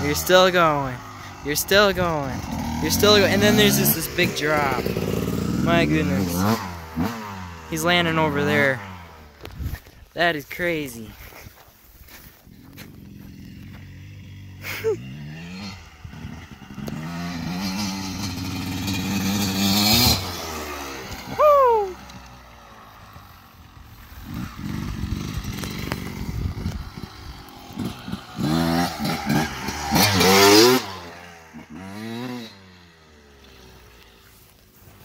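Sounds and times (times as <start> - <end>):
dirt bike engine revving: 0.0 - 11.2, 12.1 - 35.0.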